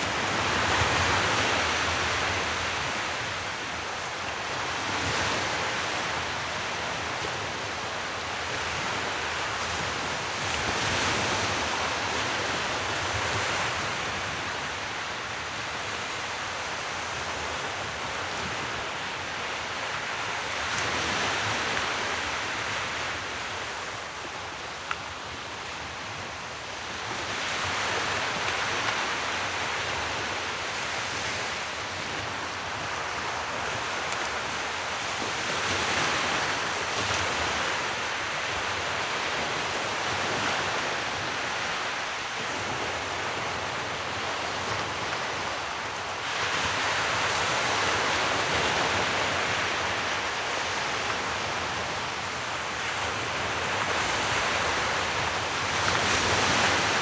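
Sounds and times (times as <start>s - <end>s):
sea waves surging: 0.0s - 57.0s.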